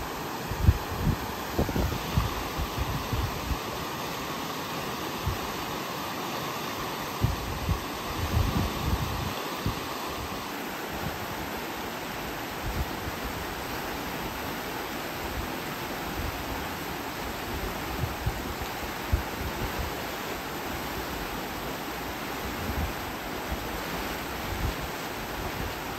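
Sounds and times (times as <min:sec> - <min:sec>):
river water rushing over stones: 0:00.0 - 0:25.9.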